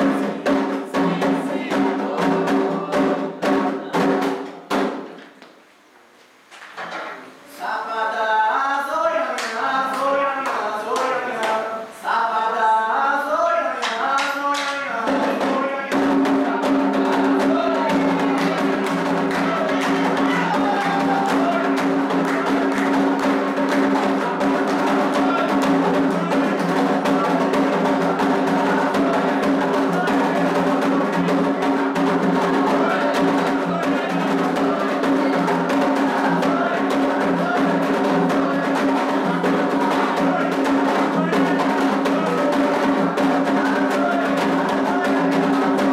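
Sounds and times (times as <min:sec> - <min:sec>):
voices singing: 0:00.0 - 0:04.2, 0:07.5 - 0:45.9
hand drums and percussion: 0:00.0 - 0:05.2, 0:13.8 - 0:45.9.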